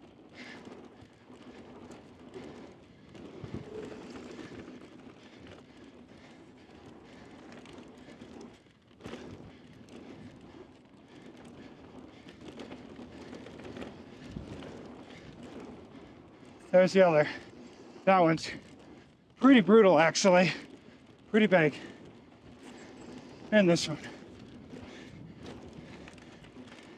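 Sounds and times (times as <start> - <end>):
bike chain and frame rattling: 0.0 - 26.9
bike tyres on loose dirt: 0.0 - 26.9.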